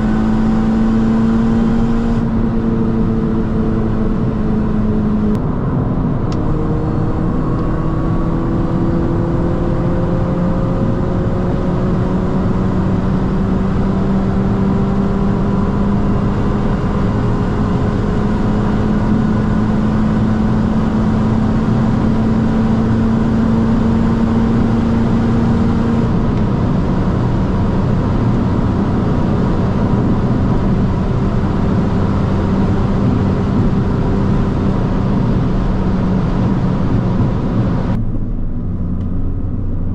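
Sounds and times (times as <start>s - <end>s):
car engine pulling hard: 0.0s - 39.9s
wind and tyre noise: 0.0s - 39.9s.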